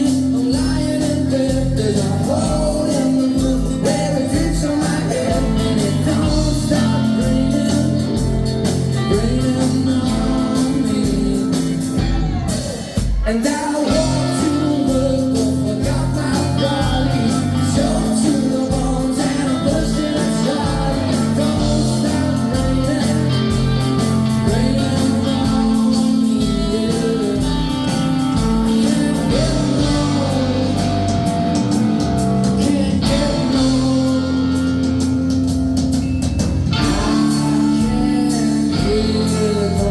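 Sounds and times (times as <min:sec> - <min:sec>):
lead singing: 0:00.0 - 0:35.1, 0:36.7 - 0:39.9
live rock band: 0:00.0 - 0:39.9.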